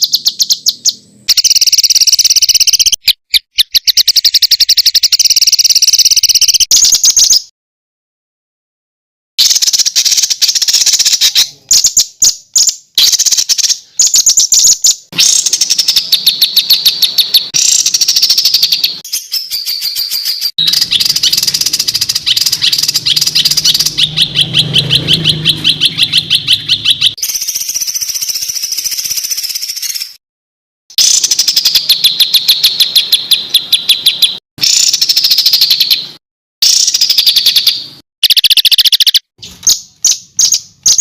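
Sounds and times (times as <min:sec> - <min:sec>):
songbird song: 0:00.0 - 0:07.5, 0:09.4 - 0:30.2, 0:31.0 - 0:41.0.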